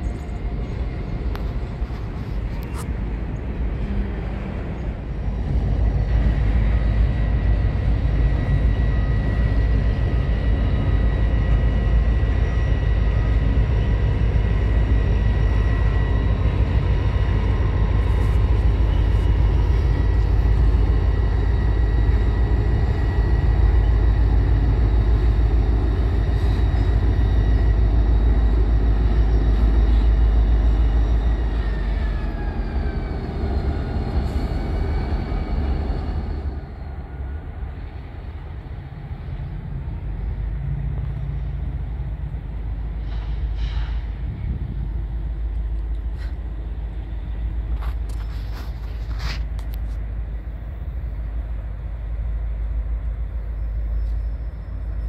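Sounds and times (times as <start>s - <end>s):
diesel locomotives rumbling: 0.0s - 55.0s
train cars rolling: 0.0s - 55.0s.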